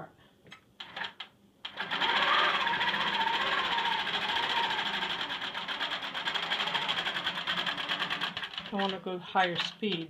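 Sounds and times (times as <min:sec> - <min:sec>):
quilting machine needle chatter: 0:00.8 - 0:10.0.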